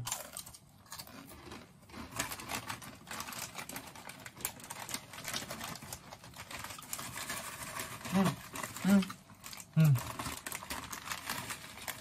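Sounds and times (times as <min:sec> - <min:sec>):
people chewing crunchy chips: 0:00.0 - 0:12.0.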